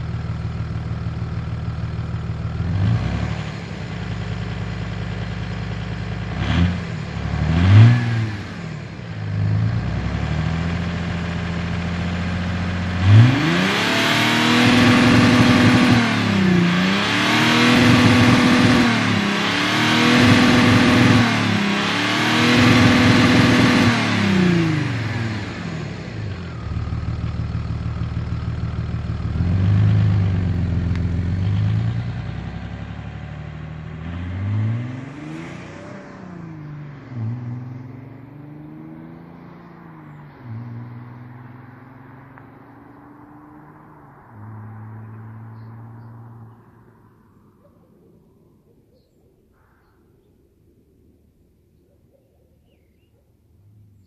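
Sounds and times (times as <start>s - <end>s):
diesel car engine accelerating: 0.0s - 48.8s.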